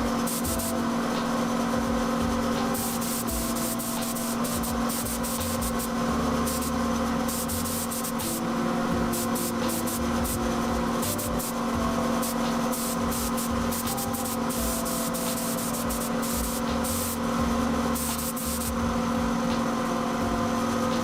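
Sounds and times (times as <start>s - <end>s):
paint spray gun hissing: 0.0s - 1.8s, 2.7s - 18.8s
steady hum: 0.0s - 21.0s.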